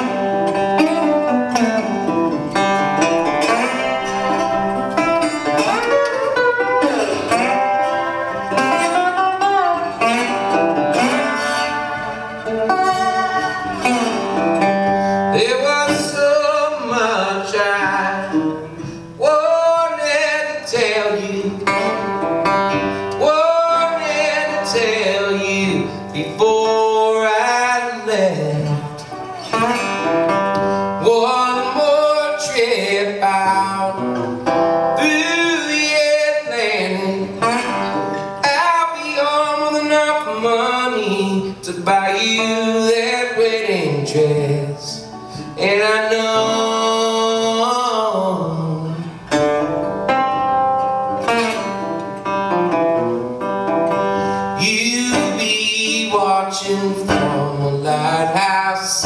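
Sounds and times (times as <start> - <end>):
man singing: 0.0 - 49.7, 54.2 - 59.0
resonator guitar picked and strummed: 0.0 - 59.0.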